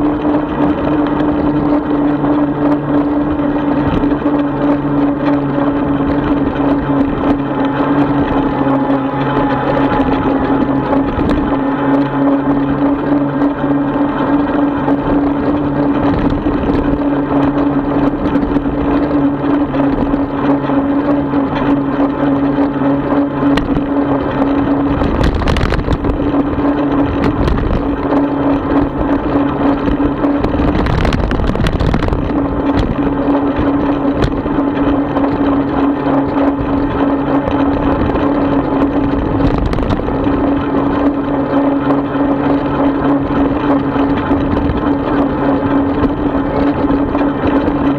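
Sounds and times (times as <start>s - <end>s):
rolling and wind rumble: 0.0s - 47.9s.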